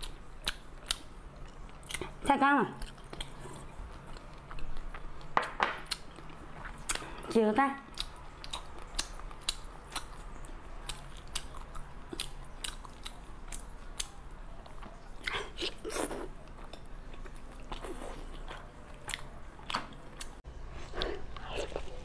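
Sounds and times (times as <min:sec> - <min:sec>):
person chewing: 0:00.0 - 0:02.2, 0:02.8 - 0:07.3, 0:07.9 - 0:22.0
low steady hum: 0:00.0 - 0:22.0.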